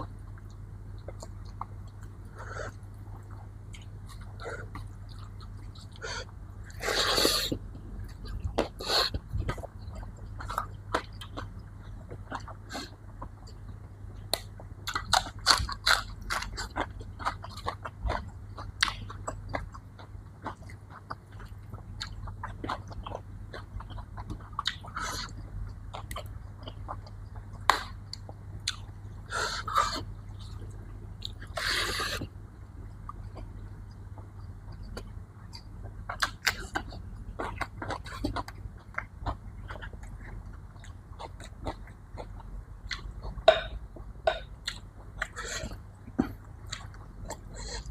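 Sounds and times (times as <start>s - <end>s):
chewing and crunching food: 0.0s - 47.9s.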